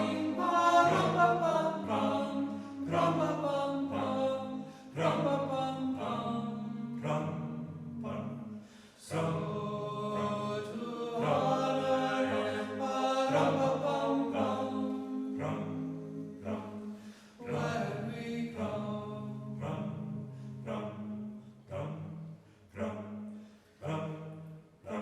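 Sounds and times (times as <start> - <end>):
choir singing slow chant: 0.0 - 25.0.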